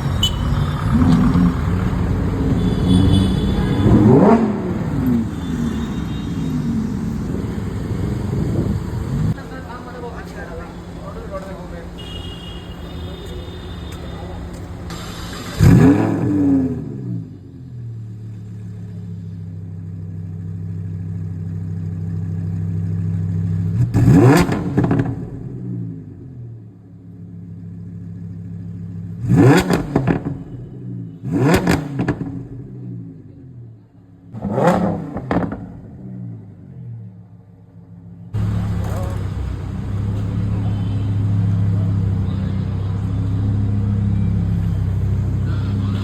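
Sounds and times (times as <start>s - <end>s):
car engine idling and revving: 0.0s - 12.4s, 13.2s - 46.0s.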